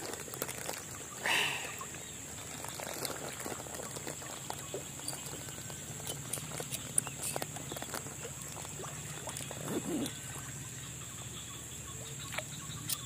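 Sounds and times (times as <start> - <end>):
water splashing: 0.0 - 11.0
water dripping and trickling: 0.0 - 13.0.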